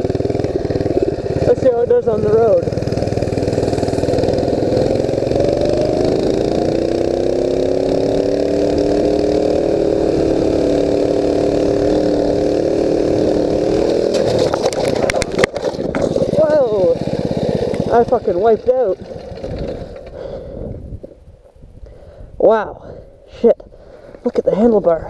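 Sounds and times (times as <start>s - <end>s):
mini bike engine revving: 0.0s - 20.6s.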